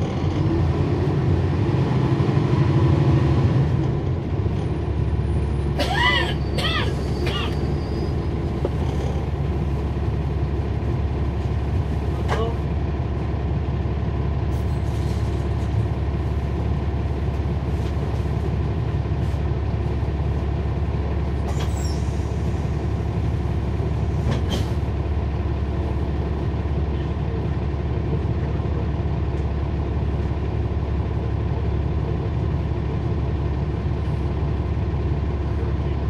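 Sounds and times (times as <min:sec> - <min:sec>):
bus diesel engine droning: 0:00.0 - 0:36.0.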